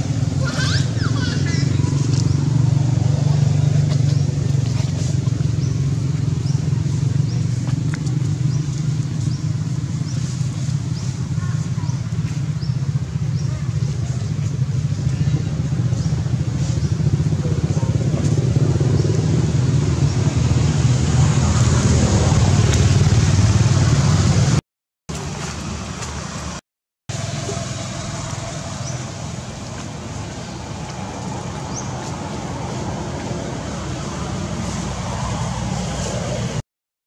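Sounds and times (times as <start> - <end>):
vehicle engine rumbling: 0.0 - 36.6.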